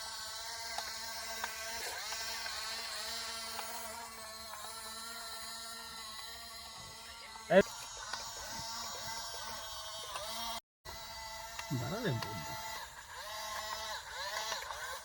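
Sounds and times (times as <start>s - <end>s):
toy vehicle motor humming: 0.0s - 15.0s.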